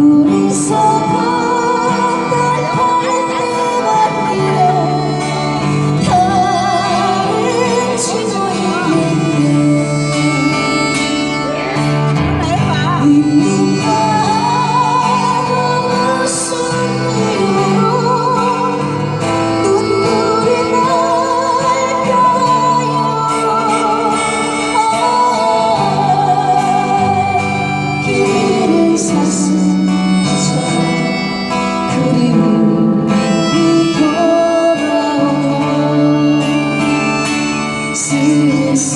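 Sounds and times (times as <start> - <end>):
folk song on acoustic guitar: 0.0 - 38.9.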